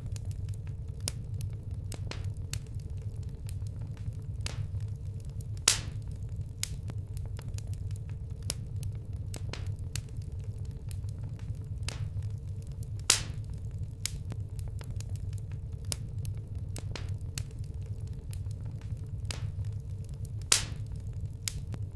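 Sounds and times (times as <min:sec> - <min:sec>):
campfire crackling and popping: 0:00.0 - 0:21.9
fire low rumble: 0:00.0 - 0:21.9.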